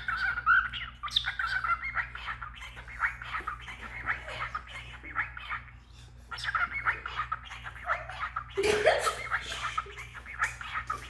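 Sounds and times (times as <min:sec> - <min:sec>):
cockatiel chattering and warbling: 0:00.0 - 0:11.0.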